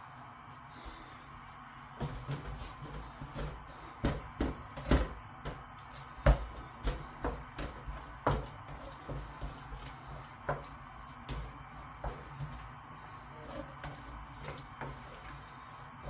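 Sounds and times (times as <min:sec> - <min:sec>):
onions frying in oil: 0:01.6 - 0:16.0.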